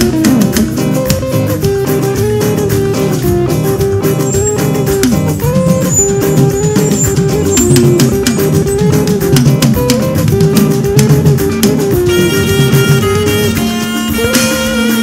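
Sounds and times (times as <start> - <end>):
bass: 0.0 - 15.0
guitar: 0.0 - 15.0
saxophone melody: 0.0 - 15.0
steady percussion beat: 0.0 - 15.0.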